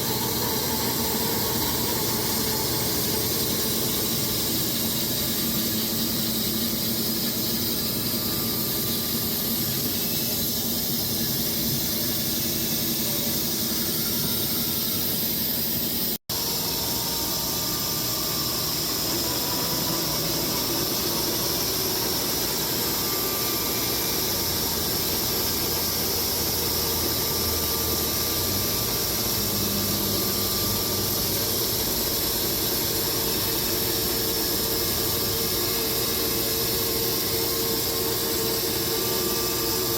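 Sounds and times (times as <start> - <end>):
band saw blade hissing in wood: 0.0 - 39.9.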